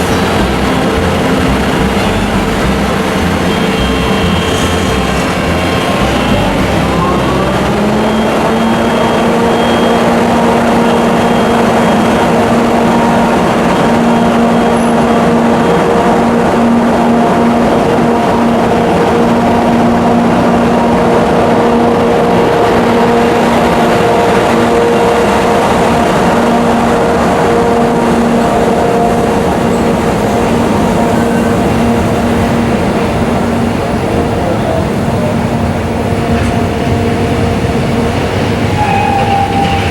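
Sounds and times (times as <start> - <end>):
electric train running noise: 0.0 - 39.9.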